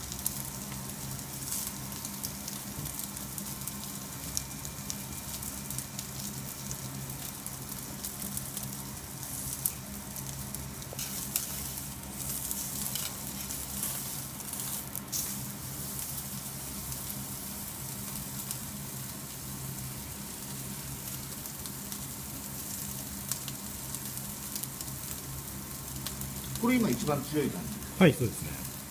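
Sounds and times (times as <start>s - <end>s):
steak sizzling on grill: 0.0s - 28.9s.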